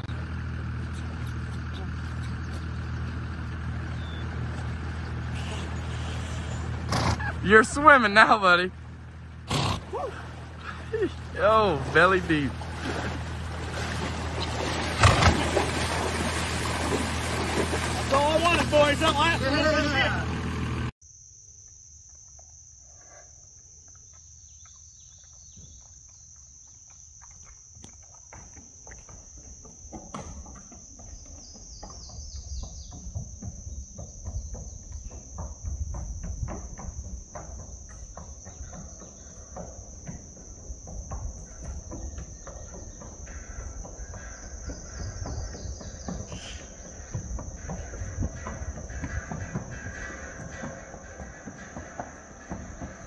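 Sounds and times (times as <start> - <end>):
horse hooves on wooden planks: 0.0 - 19.8, 23.6 - 53.0
insects trilling: 0.0 - 20.2, 21.0 - 53.0.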